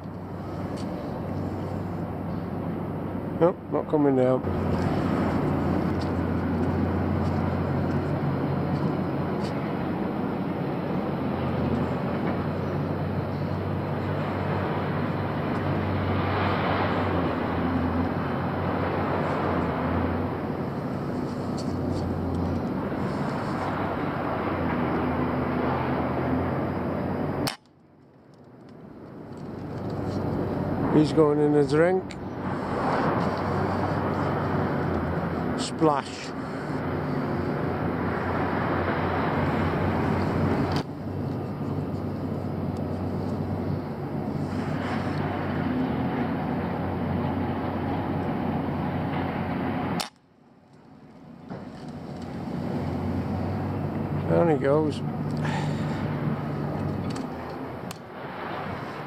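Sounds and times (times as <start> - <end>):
low background drone: 0.0 - 59.0.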